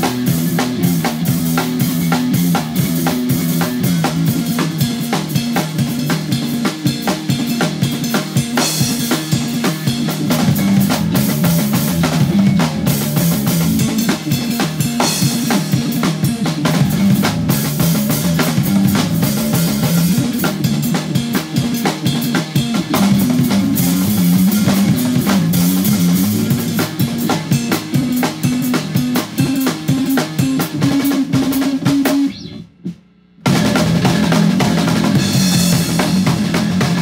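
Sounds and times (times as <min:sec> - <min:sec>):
drum kit playing metal: 0:00.0 - 0:37.0
electric bass guitar: 0:00.0 - 0:37.0.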